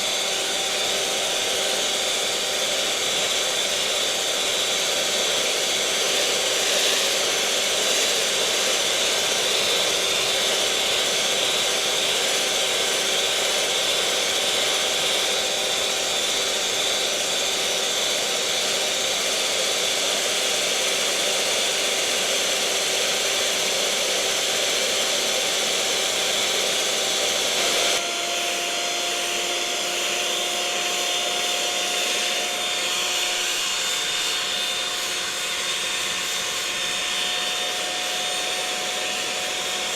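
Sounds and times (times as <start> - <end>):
electric mixer motor humming: 0.0 - 39.9.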